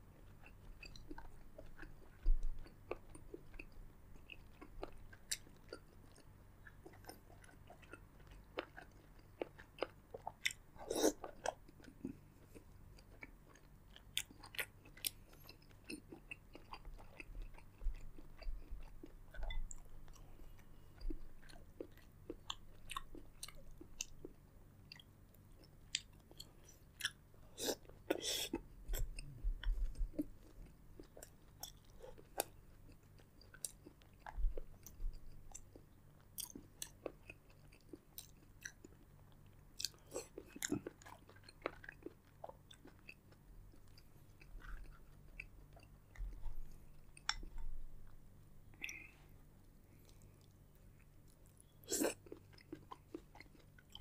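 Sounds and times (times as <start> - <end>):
chewing with wet smacks: 0.2 - 49.1, 49.9 - 54.0.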